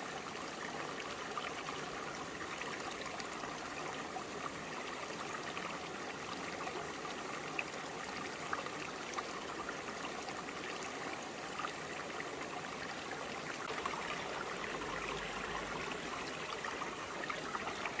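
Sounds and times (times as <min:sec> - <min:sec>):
stream babbling over rocks: 0:00.0 - 0:18.0.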